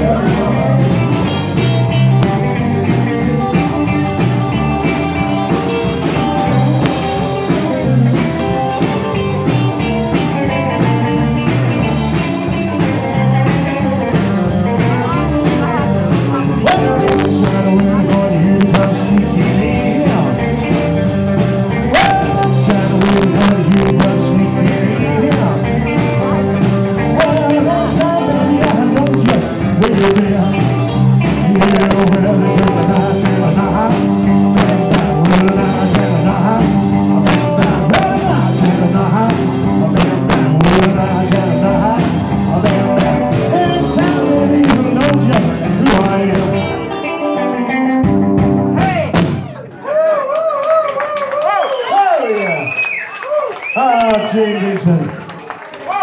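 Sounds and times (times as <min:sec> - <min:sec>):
rock and roll band playing: 0:00.0 - 0:56.0.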